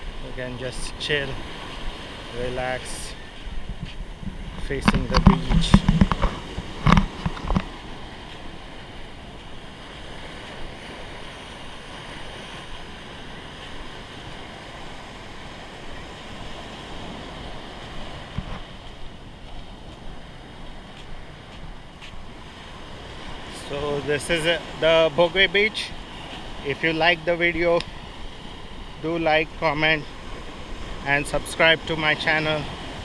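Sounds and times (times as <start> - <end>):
small waves washing up shore: 0.0 - 33.0.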